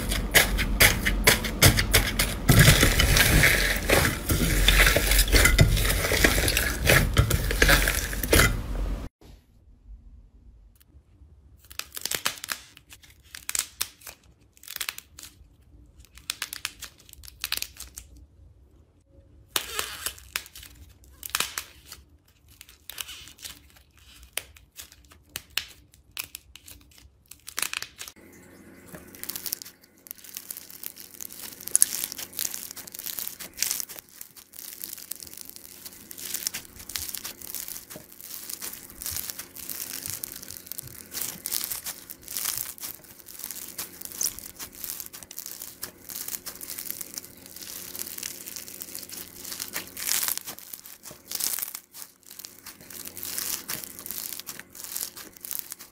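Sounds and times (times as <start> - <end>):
slime crackling and popping: 0.0 - 8.6, 11.6 - 18.2, 19.6 - 28.2, 28.9 - 55.9.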